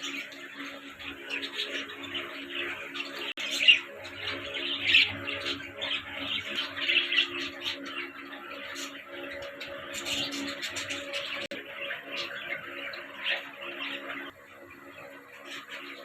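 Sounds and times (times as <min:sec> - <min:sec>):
parrots chattering and chirping: 0:00.0 - 0:16.0.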